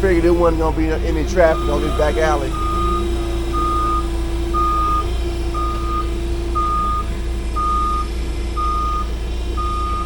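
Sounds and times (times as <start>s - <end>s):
low engine rumble: 0.0s - 10.0s
vehicle backup alarm beeping: 0.0s - 10.0s.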